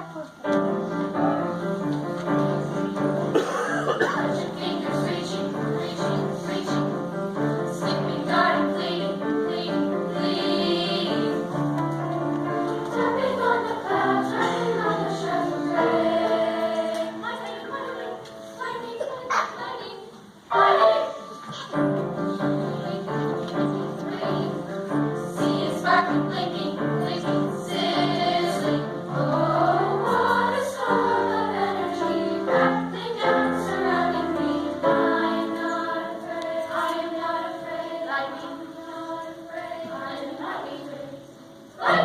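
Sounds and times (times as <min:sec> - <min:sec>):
choir singing sustained chords: 0:02.6 - 0:11.7, 0:12.8 - 0:18.1, 0:20.4 - 0:42.0.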